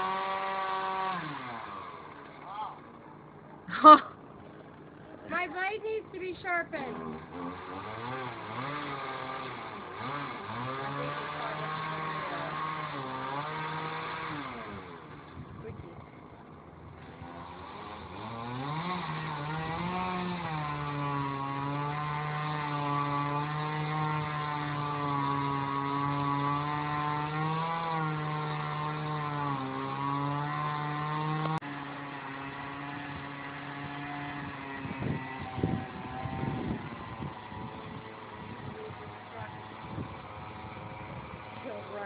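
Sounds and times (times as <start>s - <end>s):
small gas engine revving: 0.0s - 42.0s.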